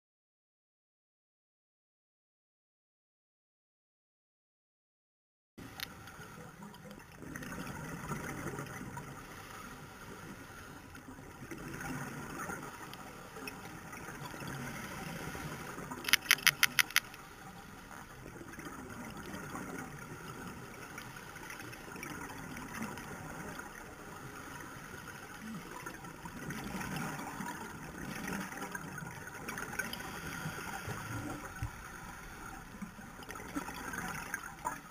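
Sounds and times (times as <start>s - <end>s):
scuba regulator bubbles gurgling: 5.6s - 34.9s.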